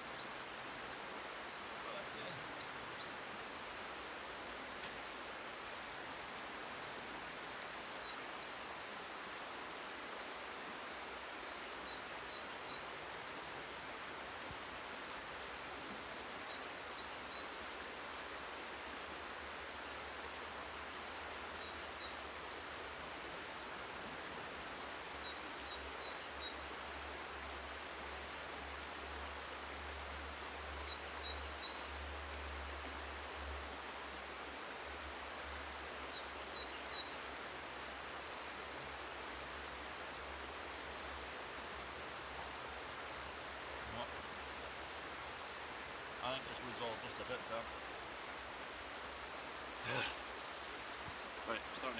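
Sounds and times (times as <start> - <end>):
river rushing: 0.0 - 51.9.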